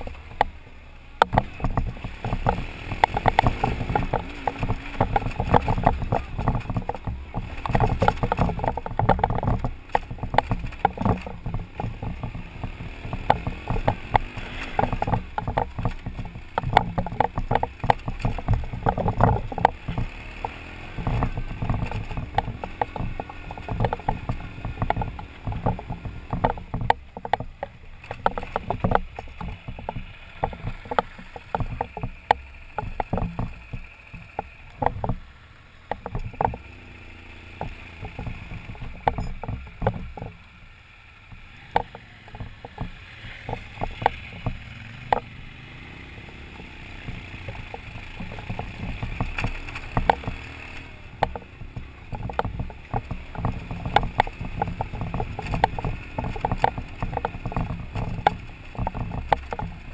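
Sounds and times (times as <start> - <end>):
motorcycle engine rumble: 0.0 - 59.9
motorcycle rattling over rocks: 0.0 - 59.9.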